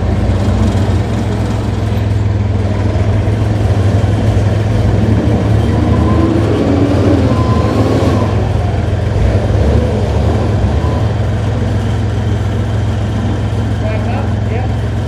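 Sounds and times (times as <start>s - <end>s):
heavy vehicle engine humming: 0.0s - 15.0s.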